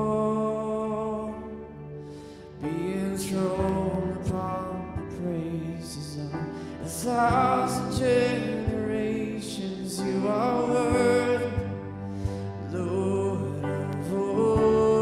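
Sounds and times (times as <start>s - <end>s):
acoustic guitar: 0.0s - 15.0s
person singing: 0.0s - 15.0s
sustained chords: 0.0s - 15.0s
held bass: 2.6s - 15.0s.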